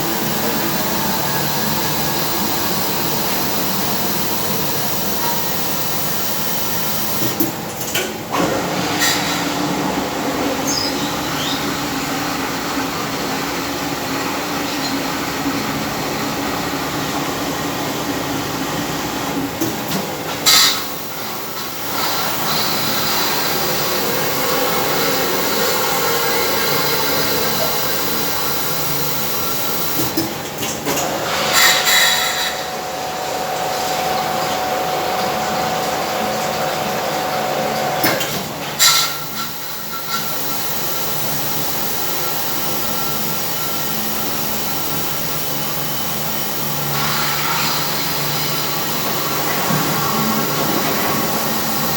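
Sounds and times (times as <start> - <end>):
washing machine mechanical drone: 0.0 - 51.9.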